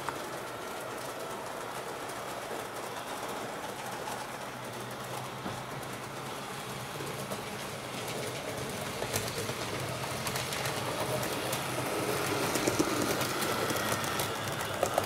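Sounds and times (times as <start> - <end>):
model train motor hum: 0.0 - 15.0
wheels rolling on rails: 0.0 - 15.0.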